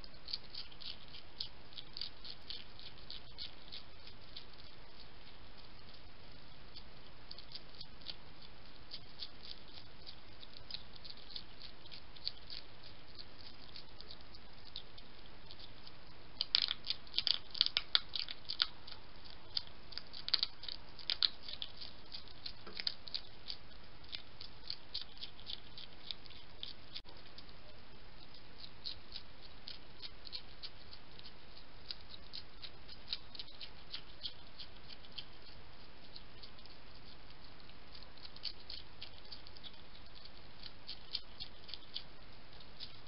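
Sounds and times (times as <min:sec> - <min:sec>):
hedgehog chewing crunchy food: 0:00.0 - 0:43.0.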